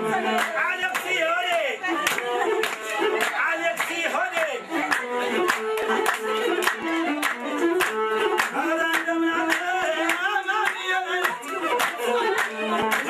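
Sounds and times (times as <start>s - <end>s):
group singing: 0.0s - 13.0s
rhythmic hand clapping: 0.0s - 13.0s.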